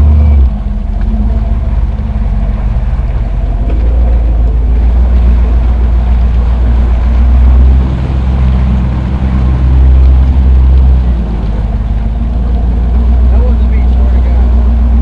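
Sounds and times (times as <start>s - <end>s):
car engine running under load: 0.0s - 15.0s
tyre churning and splashing mud: 0.0s - 15.0s.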